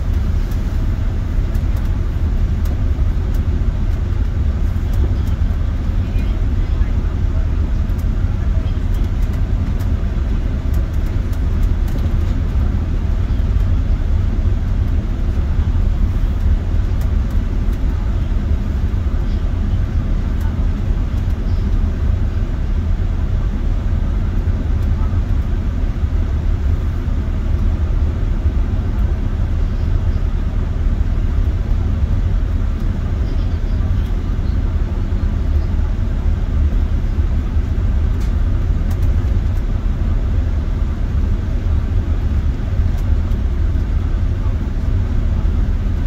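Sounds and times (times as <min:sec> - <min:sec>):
bus engine and road rumble: 0:00.0 - 0:46.0.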